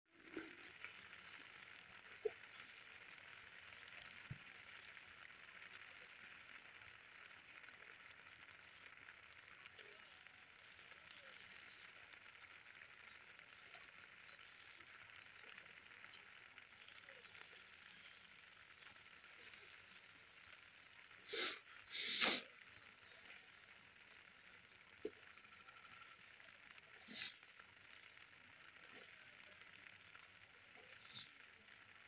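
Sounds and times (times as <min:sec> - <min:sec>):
rain on water: 0:00.1 - 0:32.0.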